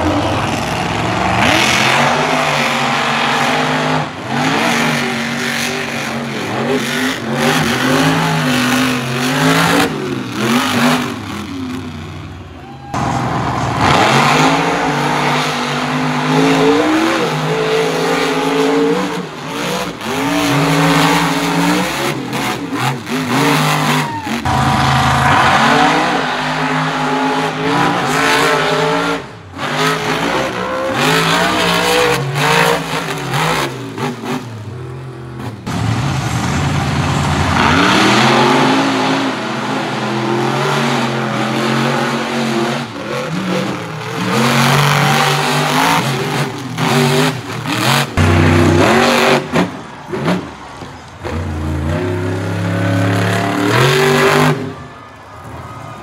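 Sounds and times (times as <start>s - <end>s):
monster truck engines revving: 0.0s - 56.0s.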